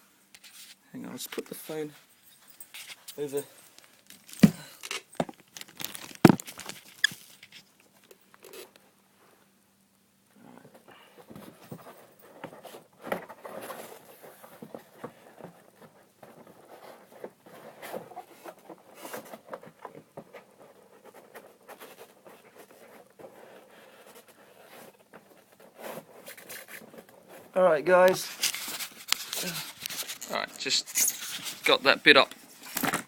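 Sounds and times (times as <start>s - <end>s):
packaging rustling: 2.8s - 8.8s, 11.2s - 33.0s.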